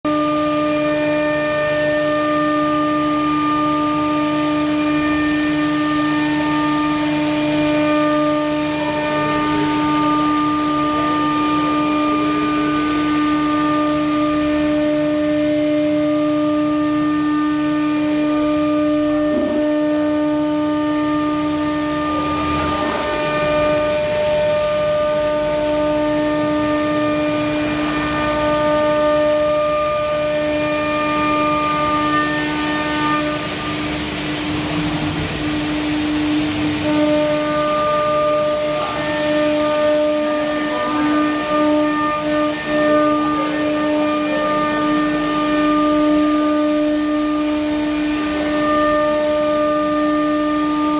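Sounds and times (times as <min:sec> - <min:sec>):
router spindle whining: 0:00.1 - 0:50.9.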